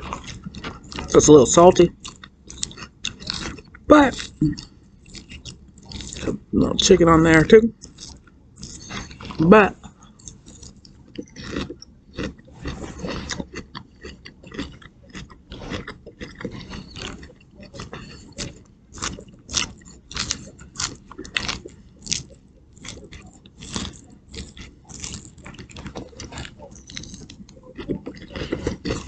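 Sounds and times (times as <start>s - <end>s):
chewing crunchy salad: 0.0s - 29.0s.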